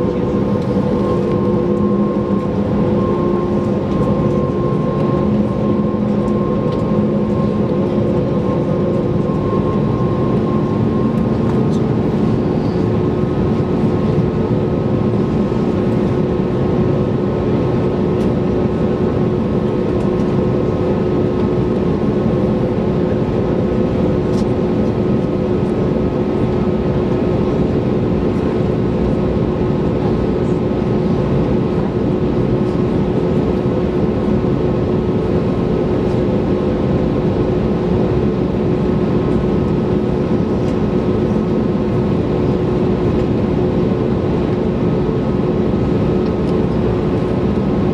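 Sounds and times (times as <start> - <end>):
aircraft engines roaring: 0.0 - 47.9.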